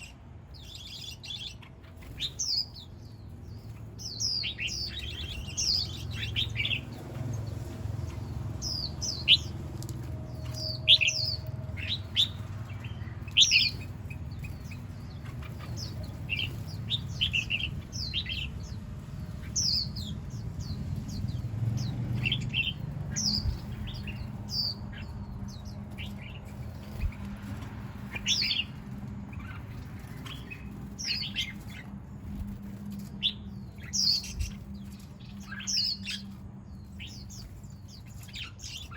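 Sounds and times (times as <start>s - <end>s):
small birds chirping: 0.0s - 38.9s
steady low rumble: 1.9s - 38.9s.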